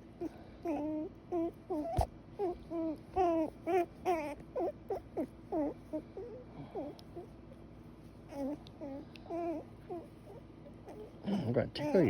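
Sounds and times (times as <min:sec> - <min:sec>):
baby fussing and crying: 0:00.0 - 0:07.4, 0:08.3 - 0:12.0.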